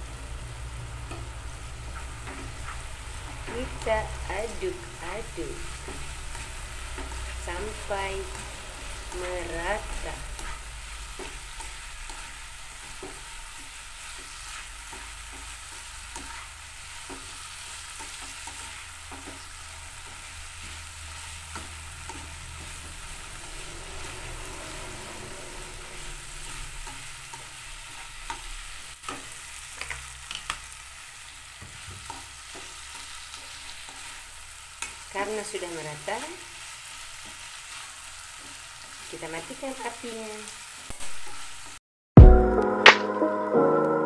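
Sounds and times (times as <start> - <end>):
food sizzling in a wok: 0.0 - 41.8
spatula scraping a wok: 0.9 - 39.2.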